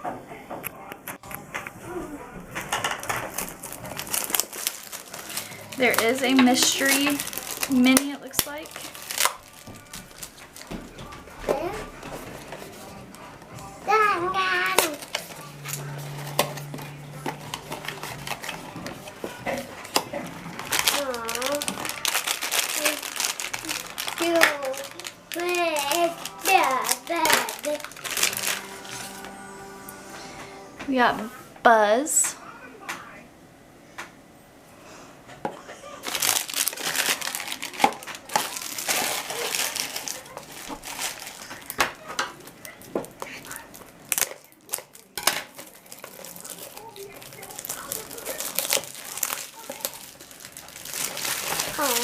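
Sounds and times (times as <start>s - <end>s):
low steady hum: 0.8s - 52.0s
hands handling packaging: 2.5s - 29.3s, 36.0s - 52.0s.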